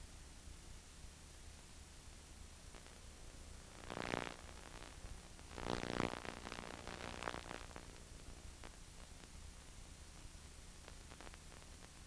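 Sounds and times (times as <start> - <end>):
videotape hum and hiss: 0.0 - 12.0.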